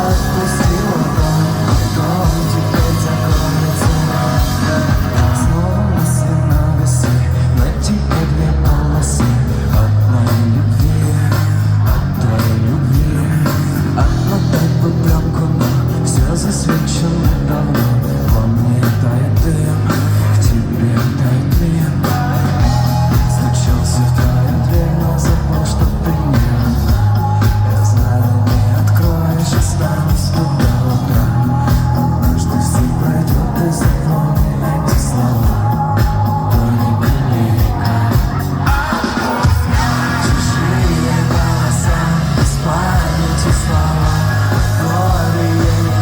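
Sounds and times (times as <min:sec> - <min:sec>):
drums: 0:00.0 - 0:46.0
heavy bass line: 0:00.0 - 0:46.0
person singing: 0:00.0 - 0:46.0
rock band playing live: 0:00.0 - 0:46.0.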